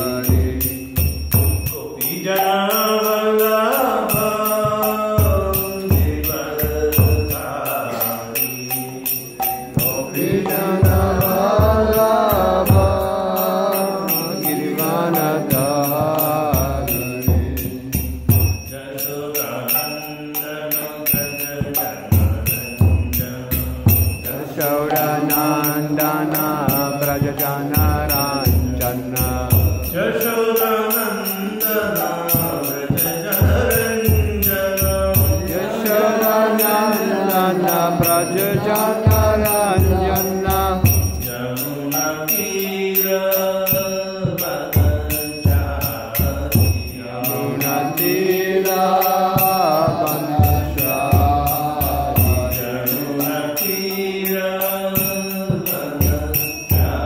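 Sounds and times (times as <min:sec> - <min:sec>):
hand cymbals ringing: 0:00.0 - 0:57.0
man singing devotional chant: 0:00.0 - 0:57.0.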